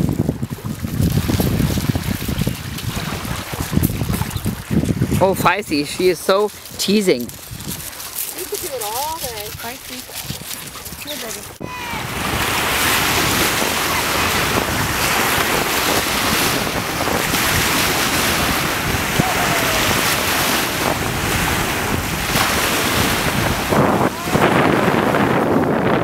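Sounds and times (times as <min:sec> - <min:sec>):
dogs splashing through water: 0:00.0 - 0:25.3
small waves breaking on shore: 0:00.0 - 0:26.0
wind noise on microphone: 0:00.0 - 0:26.0.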